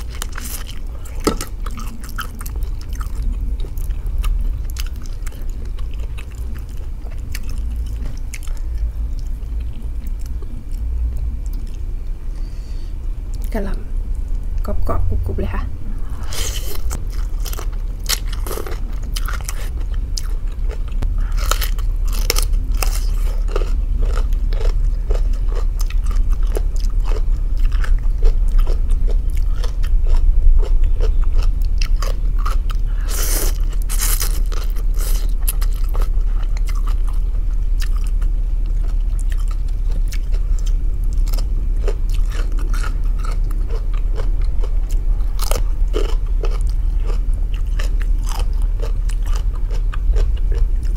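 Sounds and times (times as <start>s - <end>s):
person chewing crunchy food: 0.0s - 12.7s, 16.0s - 50.9s
steady low hum: 0.0s - 50.9s.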